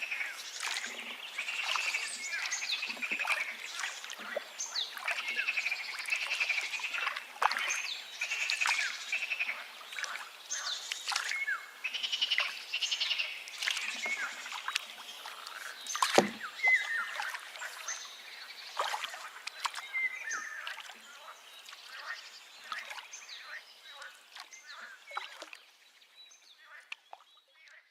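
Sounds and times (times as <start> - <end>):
birds chirping and trilling: 0.0 - 27.8.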